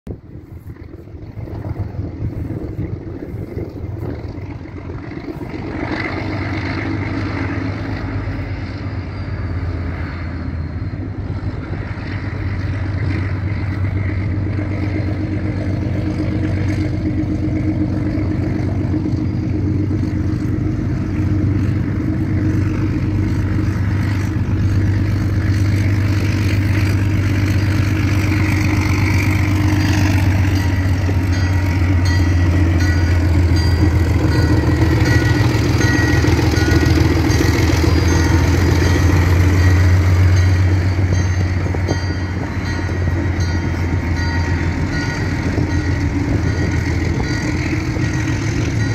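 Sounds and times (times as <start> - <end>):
diesel locomotive engine humming: 0.1 - 48.9
high steady tones: 0.8 - 48.9.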